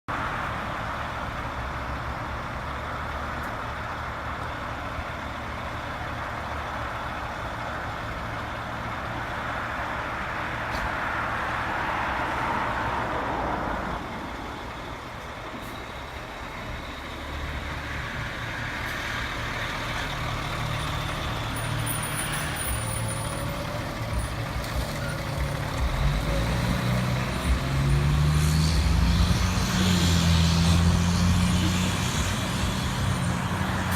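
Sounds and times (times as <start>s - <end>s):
diesel engine low rumble: 0.1s - 33.9s.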